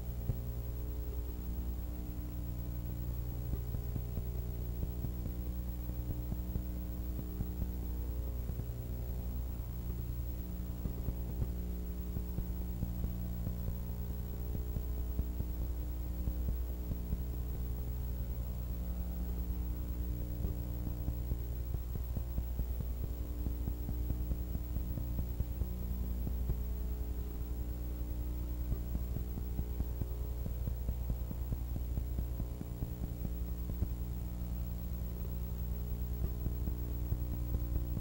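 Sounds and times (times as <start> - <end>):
electrical mains hum: 0.0 - 38.0.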